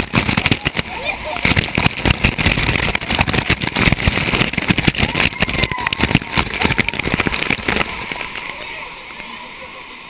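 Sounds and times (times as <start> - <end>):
rushing white water splashing: 0.0 - 10.0.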